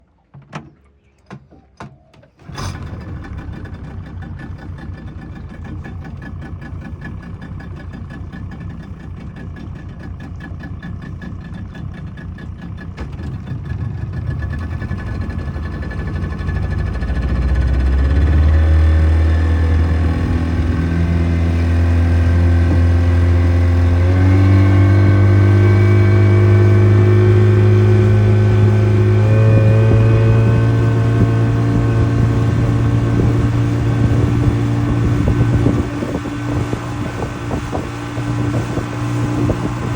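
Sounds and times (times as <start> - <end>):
outboard motor running: 0.2 - 39.9.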